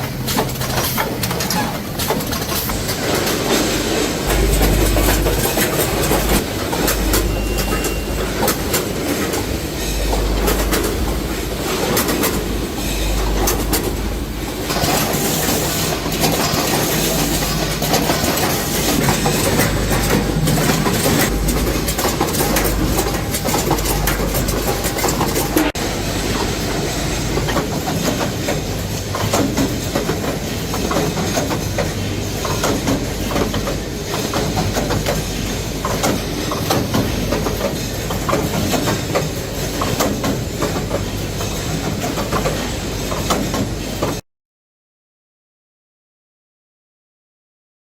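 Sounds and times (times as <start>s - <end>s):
packing machine clattering: 0.0s - 44.2s.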